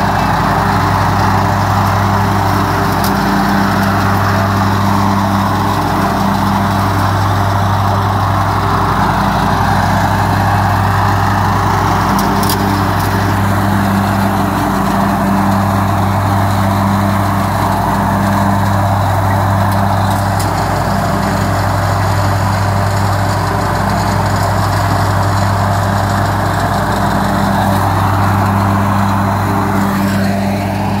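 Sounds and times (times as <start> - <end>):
lawn tractor engine droning: 0.0 - 31.0.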